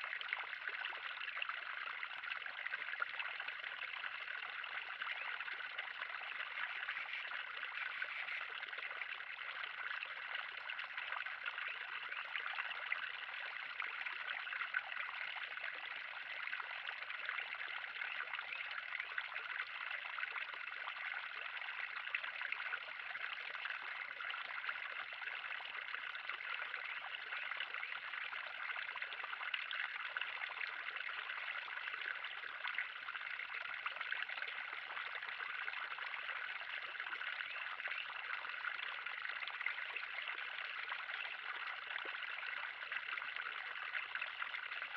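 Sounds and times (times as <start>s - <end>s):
water trickling into pond: 0.0s - 44.9s.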